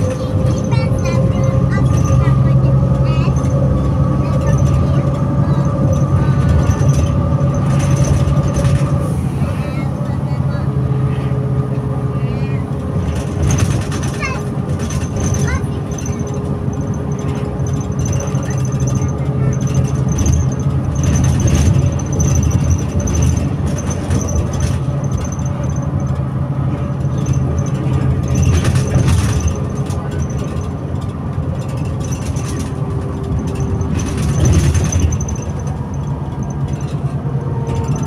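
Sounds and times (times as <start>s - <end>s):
bus diesel engine idling: 0.0s - 38.0s.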